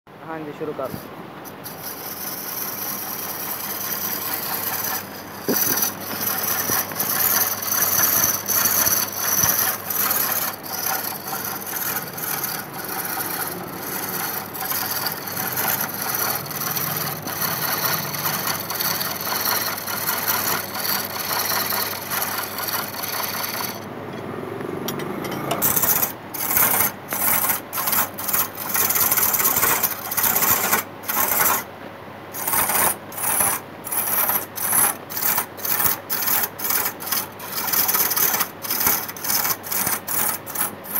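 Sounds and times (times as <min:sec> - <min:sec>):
chisel scraping wood on lathe: 0:00.8 - 0:23.9, 0:24.9 - 0:31.7, 0:32.4 - 0:40.9.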